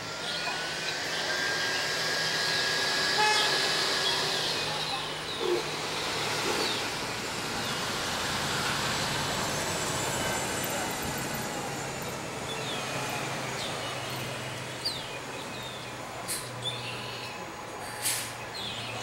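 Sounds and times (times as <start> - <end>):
bus engine humming: 0.0 - 19.0
birds chirping: 0.2 - 8.0, 9.0 - 19.0.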